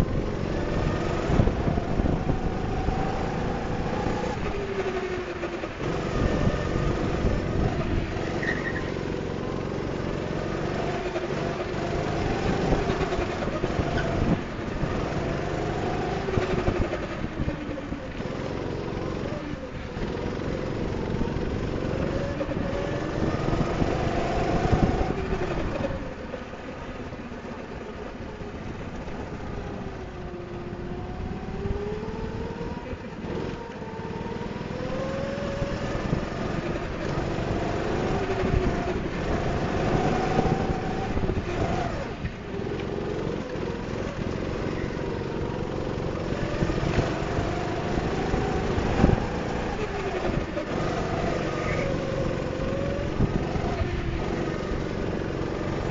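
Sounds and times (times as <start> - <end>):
go-kart engine revving: 0.0 - 55.9
wind and tyre noise: 0.0 - 55.9.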